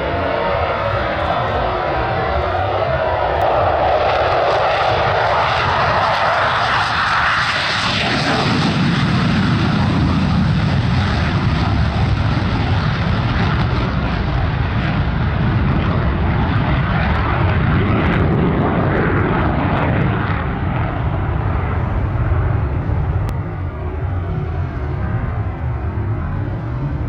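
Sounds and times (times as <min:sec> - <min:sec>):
aircraft engine roar: 0:00.0 - 0:27.0.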